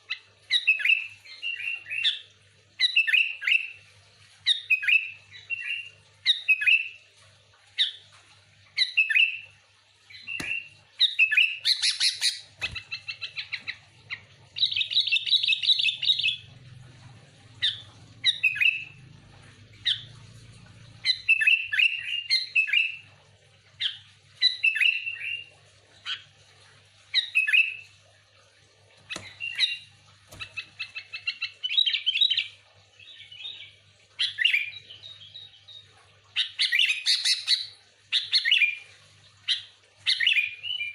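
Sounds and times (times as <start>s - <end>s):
bulbul singing and chattering: 0.0s - 26.4s, 27.0s - 28.0s, 28.9s - 40.9s.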